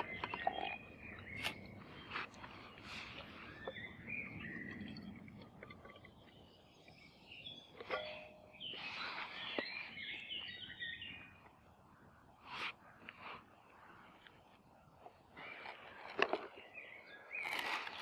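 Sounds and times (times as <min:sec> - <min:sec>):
birds chirping and warbling: 0:00.0 - 0:18.0.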